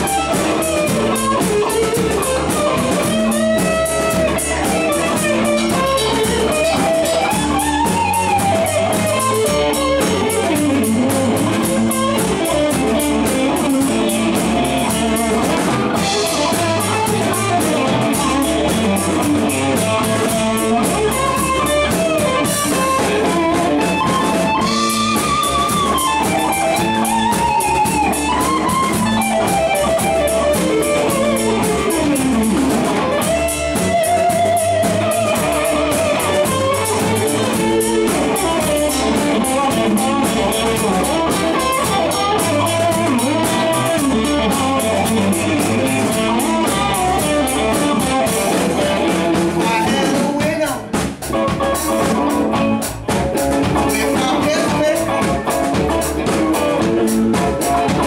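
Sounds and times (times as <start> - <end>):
electric guitar solo: 0.0 - 58.0
live blues band: 0.0 - 58.0.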